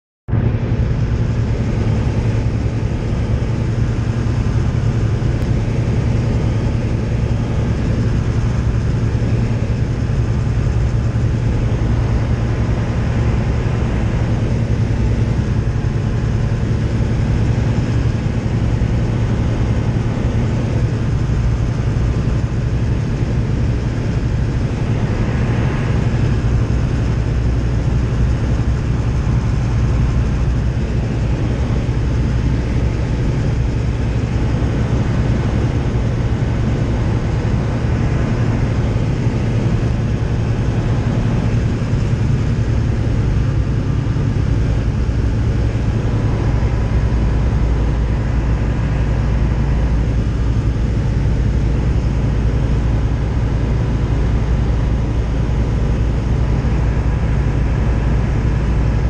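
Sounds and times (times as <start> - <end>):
cockpit air noise: 0.3 - 59.0
light aircraft engine hum: 0.3 - 59.0.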